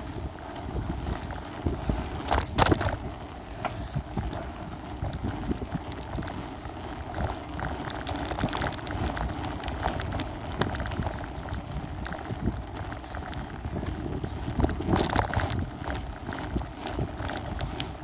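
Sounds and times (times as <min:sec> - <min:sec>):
bike knocks and rattles: 0:00.0 - 0:18.0
low riding rumble: 0:00.0 - 0:18.0.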